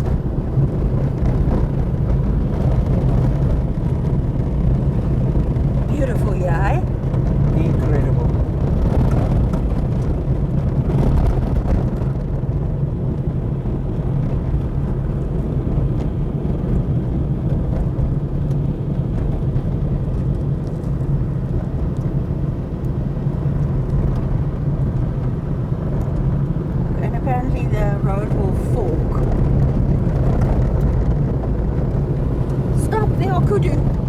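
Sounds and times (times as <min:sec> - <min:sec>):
car engine hum: 0:00.0 - 0:34.0
road and tyre noise: 0:00.0 - 0:34.0.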